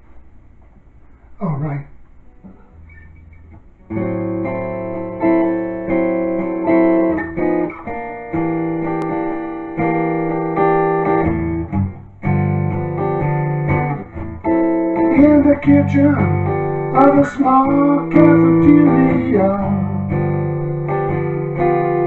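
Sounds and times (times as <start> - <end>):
acoustic guitar strumming blues: 2.4 - 22.0.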